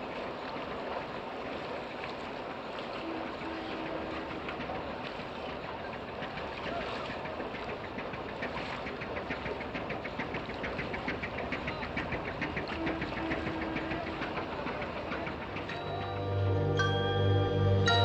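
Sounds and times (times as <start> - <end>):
small boat engine chugging: 0.0 - 18.0.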